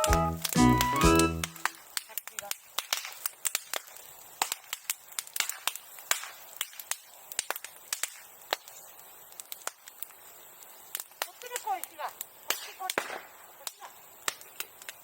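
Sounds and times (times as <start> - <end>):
bonfire crackling and popping: 0.0 - 15.0
faint steady hiss: 0.0 - 15.0.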